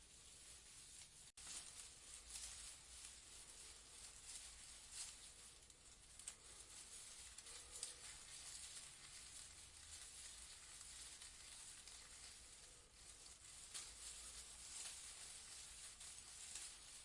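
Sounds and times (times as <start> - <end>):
leaves rustling in breeze: 0.0 - 17.0.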